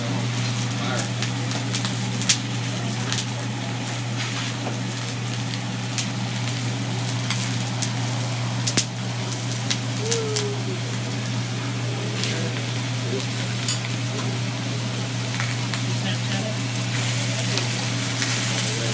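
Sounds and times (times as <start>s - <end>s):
food sizzling on a griddle: 0.0s - 18.9s
steady low hum: 0.0s - 18.9s.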